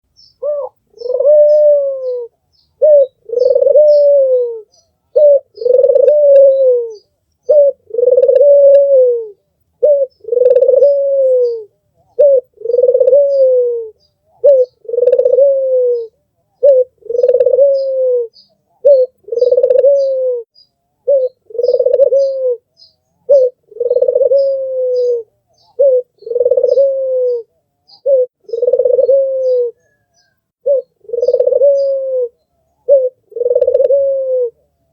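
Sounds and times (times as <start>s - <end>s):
dove cooing: 0.2s - 34.8s.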